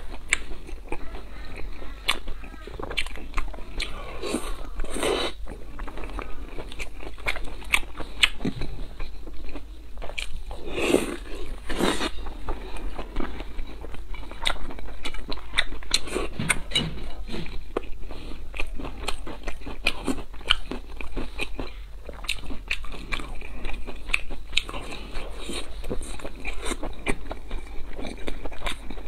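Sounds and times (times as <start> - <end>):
wet chewing mouth clicks: 0.0 - 29.0.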